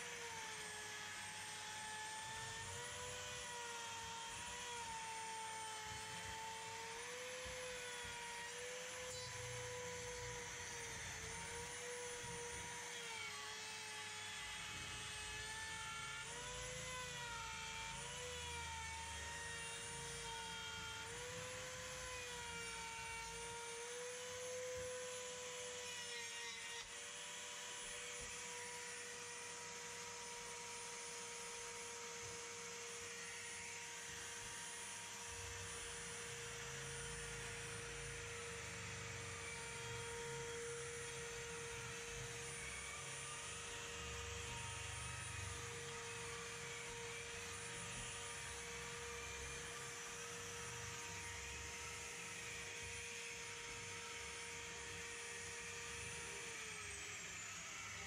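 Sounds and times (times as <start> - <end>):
router motor whining: 0.0 - 58.0.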